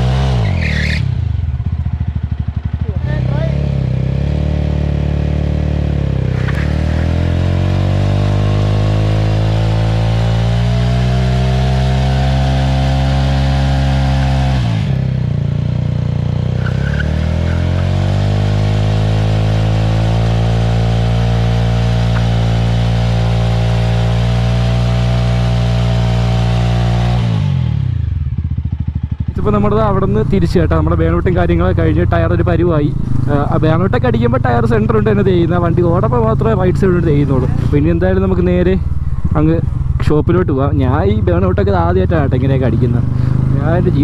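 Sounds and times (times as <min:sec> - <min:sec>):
motorcycle engine revving hard: 0:00.0 - 0:44.0.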